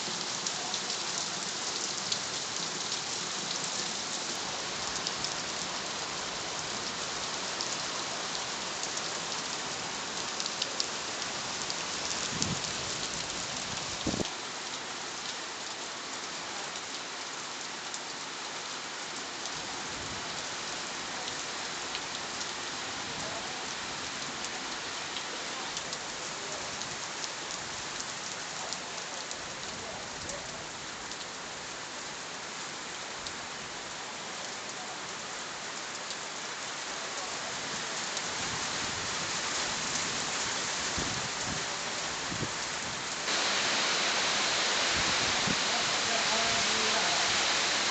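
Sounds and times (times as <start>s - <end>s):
steady rain pattering: 0.0s - 47.9s.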